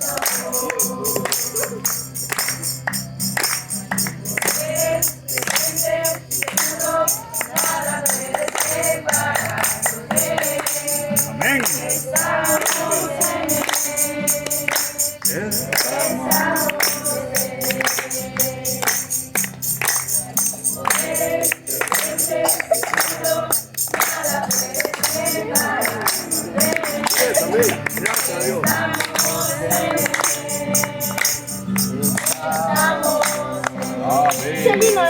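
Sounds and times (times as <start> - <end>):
group singing gospel chorus: 0.0 - 2.4, 4.0 - 19.4, 20.1 - 35.0
tambourine jingling: 0.0 - 35.0.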